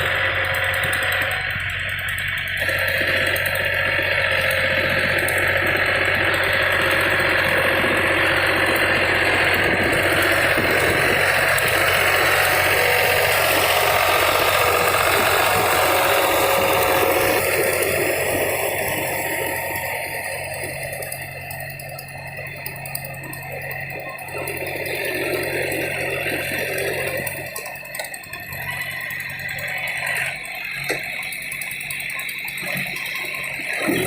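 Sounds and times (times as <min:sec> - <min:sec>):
rotavator mechanical noise: 0:00.0 - 0:34.0
tractor engine under load: 0:00.0 - 0:34.0.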